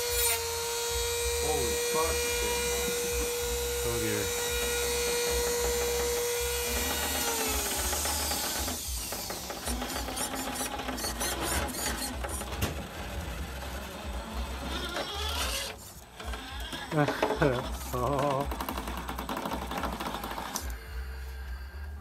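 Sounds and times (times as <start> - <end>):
small electric motor whining: 0.0 - 22.0
mechanical clicking and rattling: 2.9 - 20.8.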